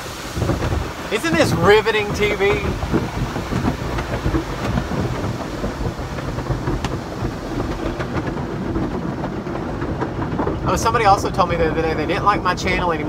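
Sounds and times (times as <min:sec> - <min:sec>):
low rumble: 0:00.0 - 0:13.0
water spray in car wash: 0:00.0 - 0:13.0.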